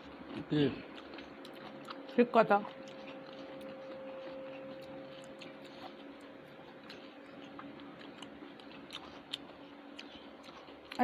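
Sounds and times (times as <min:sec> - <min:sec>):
chewing and mouth noises: 0:00.0 - 0:11.0
low steady hum: 0:00.0 - 0:11.0.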